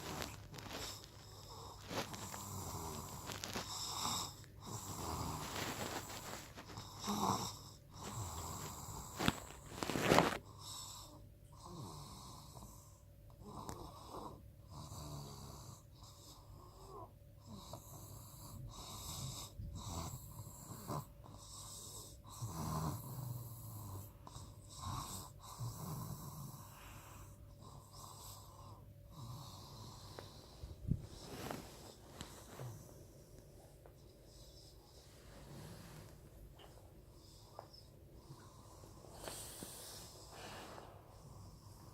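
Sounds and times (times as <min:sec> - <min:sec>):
soft snoring: 0:00.0 - 0:41.9.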